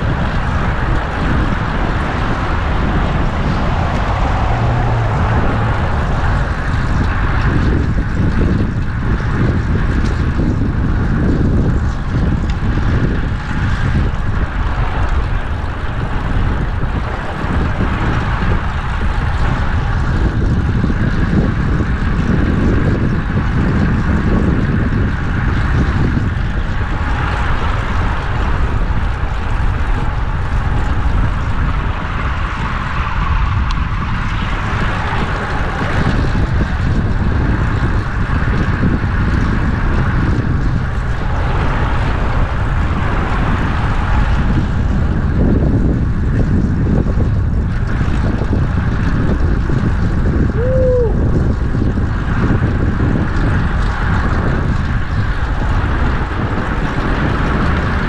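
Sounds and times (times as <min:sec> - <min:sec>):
road and traffic noise: 0:00.0 - 0:58.0
wind rushing over microphone: 0:00.0 - 0:58.0.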